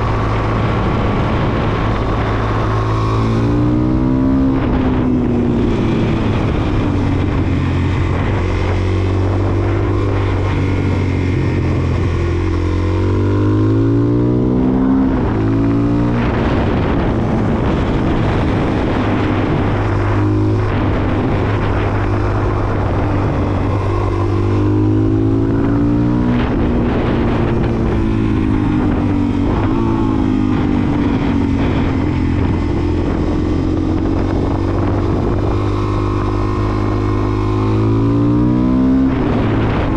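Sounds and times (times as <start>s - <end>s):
motorcycle engine revving: 0.0s - 39.9s
steady rush of noise: 0.0s - 39.9s.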